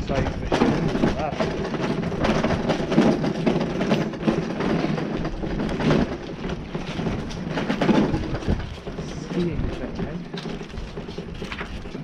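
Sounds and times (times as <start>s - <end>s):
bicycle rattling over road: 0.0s - 12.0s
wind rumbling on microphone: 0.0s - 12.0s.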